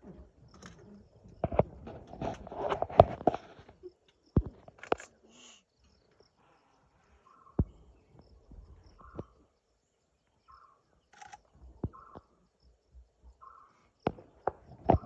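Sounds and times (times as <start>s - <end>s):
forest ambience: 0.0s - 15.0s.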